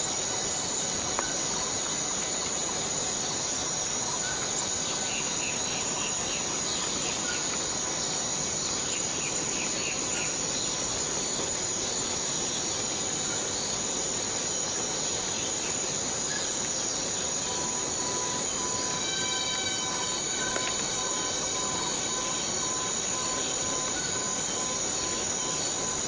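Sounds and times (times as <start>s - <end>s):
high-pitched insect chorus: 0.0s - 26.0s
steady rain: 0.0s - 26.0s.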